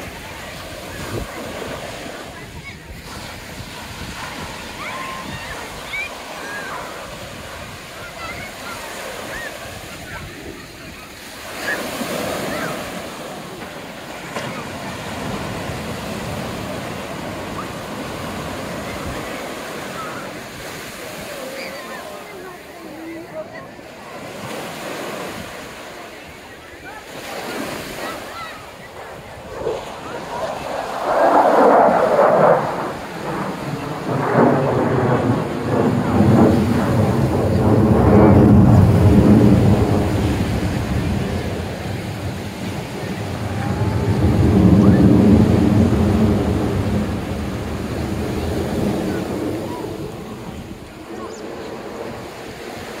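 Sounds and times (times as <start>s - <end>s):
jet engine rumble: 0.0s - 24.4s, 25.4s - 53.0s
ocean surf breaking: 0.0s - 53.0s.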